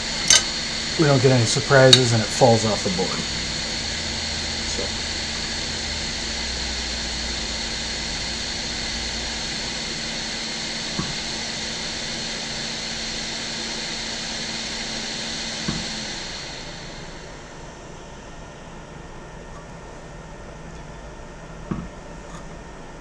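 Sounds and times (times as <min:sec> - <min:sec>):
blower fan running: 0:00.0 - 0:23.0.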